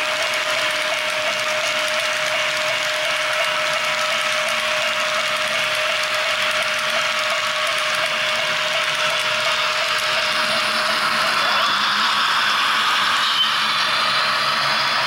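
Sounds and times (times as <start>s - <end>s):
model train wheels clattering: 0.0s - 12.2s.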